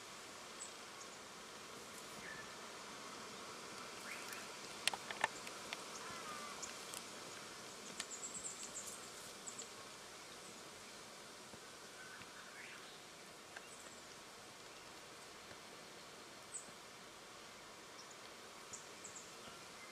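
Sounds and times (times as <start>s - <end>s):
insects buzzing: 0.0s - 19.9s
steady hiss: 0.0s - 19.9s.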